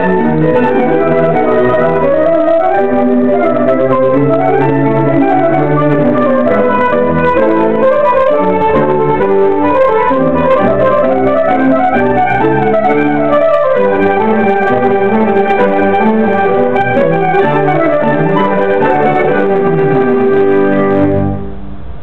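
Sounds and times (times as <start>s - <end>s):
chamber ensemble playing: 0.0s - 21.6s.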